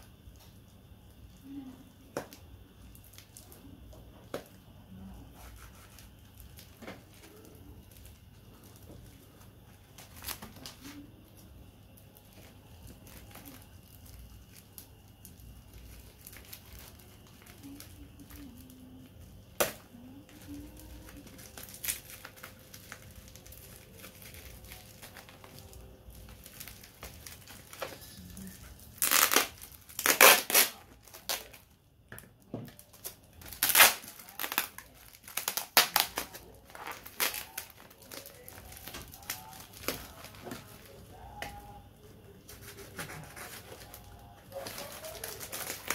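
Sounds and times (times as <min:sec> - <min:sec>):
packaging crinkling and tearing: 0:04.3 - 0:31.8, 0:32.7 - 0:41.8, 0:42.4 - 0:45.9.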